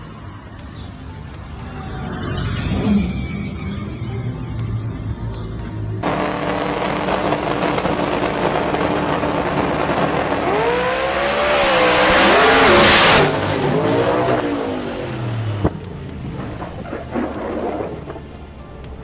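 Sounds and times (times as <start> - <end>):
car engine roaring: 0.0 - 19.0.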